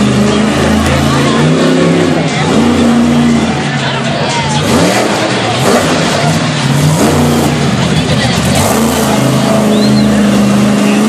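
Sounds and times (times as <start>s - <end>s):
engine throttle blips: 0.0s - 11.0s
truck engines idling: 0.0s - 11.0s.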